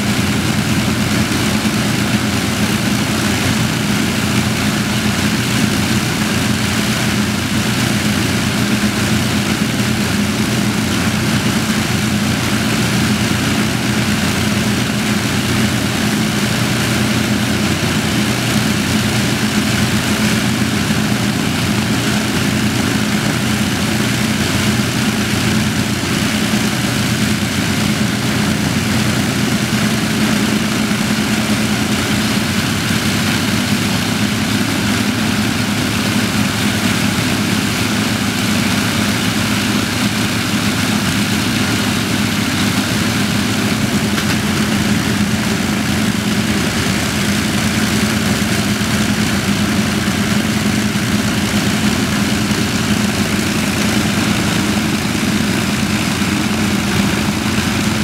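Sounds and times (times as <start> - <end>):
propeller aircraft engines droning: 0.0 - 58.0.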